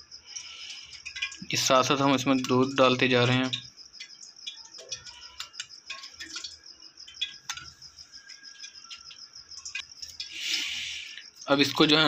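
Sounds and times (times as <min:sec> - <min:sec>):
high pulsing chirp: 0:00.0 - 0:12.0.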